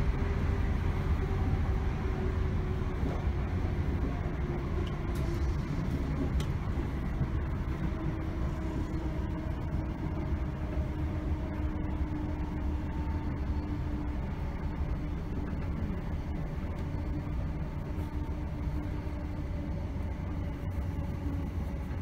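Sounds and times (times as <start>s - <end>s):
faint steady whine: 0.0s - 22.0s
train rumbling in motion: 0.0s - 22.0s.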